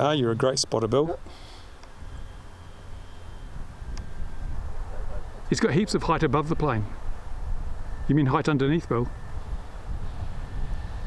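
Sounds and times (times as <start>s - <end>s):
faint high whine: 0.0s - 11.0s
wind rumbling on microphone: 1.8s - 11.0s.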